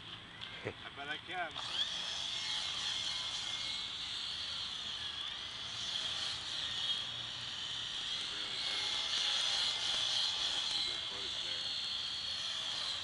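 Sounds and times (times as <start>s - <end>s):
remote control helicopter whine: 0.1s - 13.0s.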